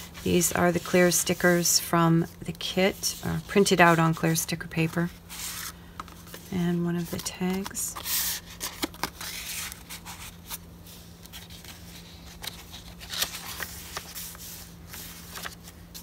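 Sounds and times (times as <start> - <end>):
paper rustling: 2.7 - 16.0.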